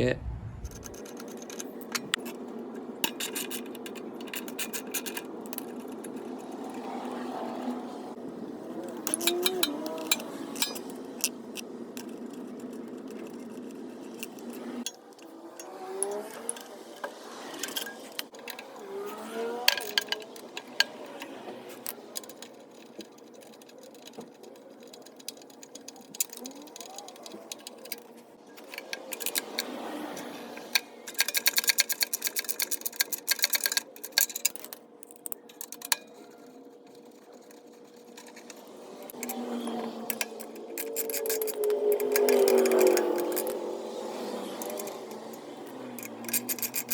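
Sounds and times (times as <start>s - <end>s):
tools clicking on metal: 0.7s - 7.2s, 8.8s - 46.9s.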